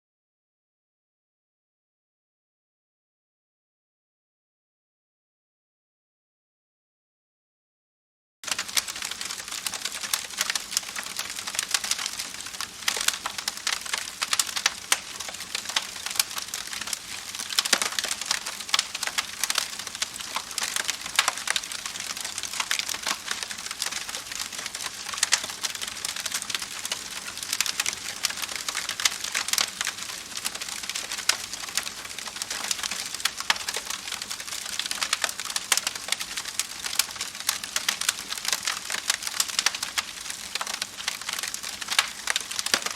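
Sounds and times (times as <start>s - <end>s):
campfire crackling and popping: 8.4s - 42.9s.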